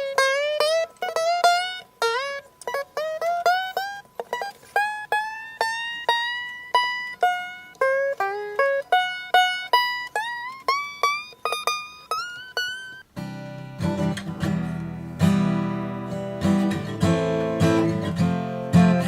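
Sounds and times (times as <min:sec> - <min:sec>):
acoustic guitar single notes: 0:00.0 - 0:19.0.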